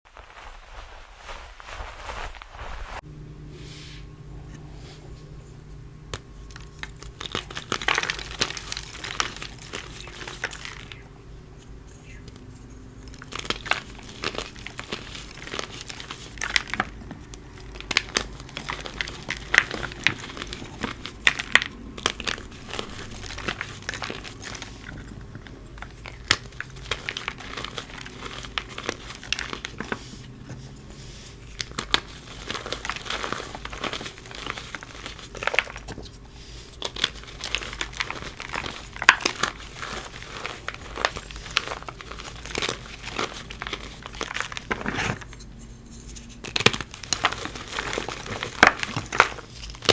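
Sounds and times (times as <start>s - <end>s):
chalk block crunching: 0.1s - 49.9s.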